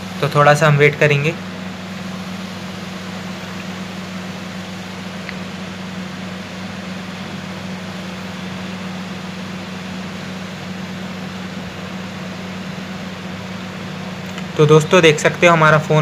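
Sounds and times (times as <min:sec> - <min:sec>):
low hum: 0:00.0 - 0:16.0
room noise hiss: 0:00.0 - 0:16.0.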